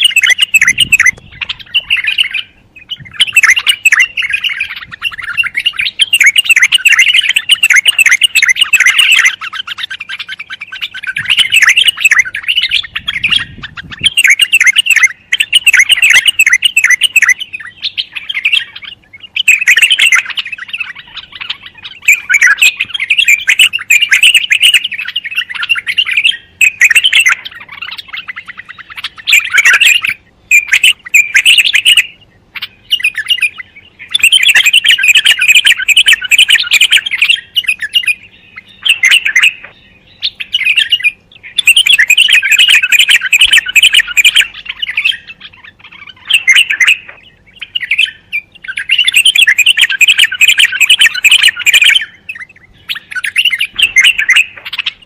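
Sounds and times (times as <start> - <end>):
bird chirping and warbling: 0.0 - 55.0.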